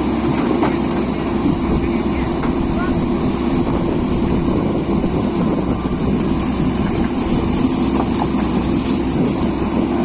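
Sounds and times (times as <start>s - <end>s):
heavy diesel engine droning: 0.0s - 10.0s.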